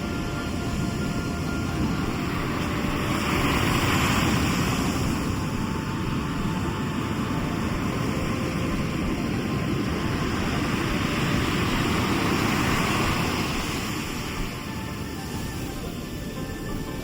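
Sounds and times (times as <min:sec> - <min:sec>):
sea waves washing onto shore: 0:00.0 - 0:17.0.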